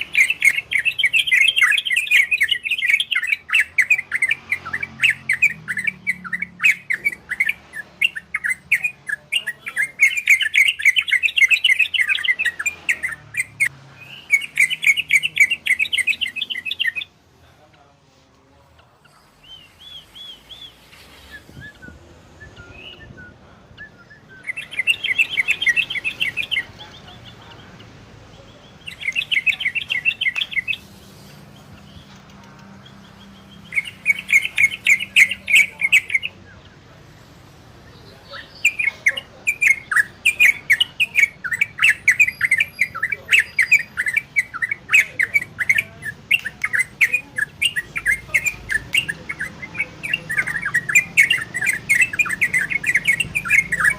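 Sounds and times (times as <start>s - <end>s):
bird singing chattering notes: 0.0s - 17.2s, 18.7s - 37.0s, 37.6s - 53.9s.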